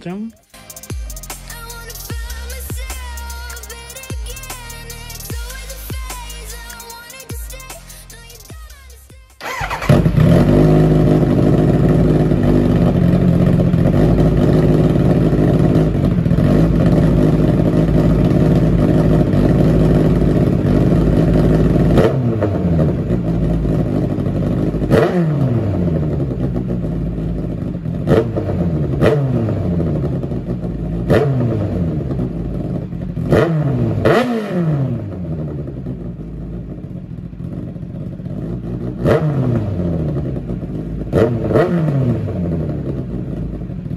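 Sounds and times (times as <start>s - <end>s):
motorcycle engine revving: 0.0s - 43.9s
motorcycle engine idling: 0.4s - 33.4s, 35.1s - 43.9s.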